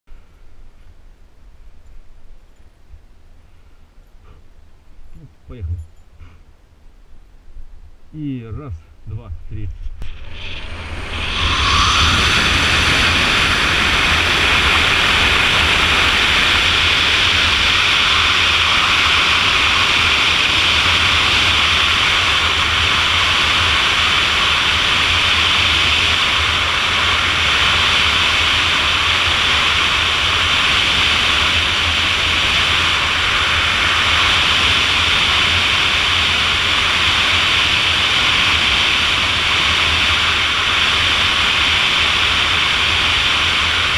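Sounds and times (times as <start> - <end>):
wind rushing over microphone: 8.4 - 43.9.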